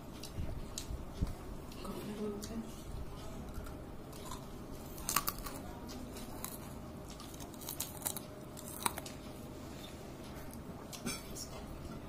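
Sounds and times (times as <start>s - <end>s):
food crackling while eaten: 0.0s - 11.6s
low background noise: 0.0s - 12.0s.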